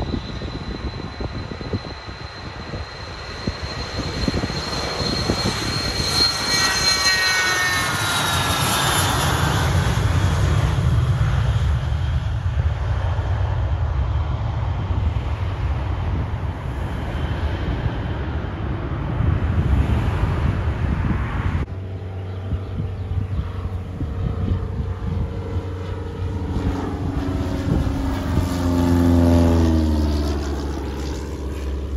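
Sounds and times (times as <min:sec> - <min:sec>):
jet taking off: 0:00.0 - 0:31.9.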